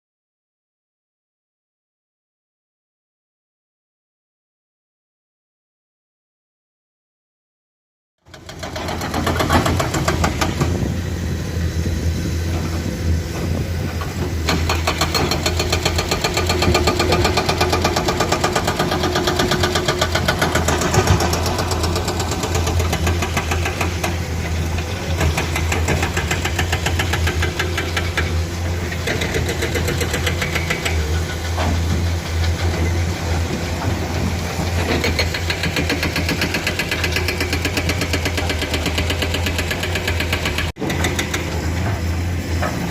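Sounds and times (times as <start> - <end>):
excavator diesel engine running: 8.3 - 42.9.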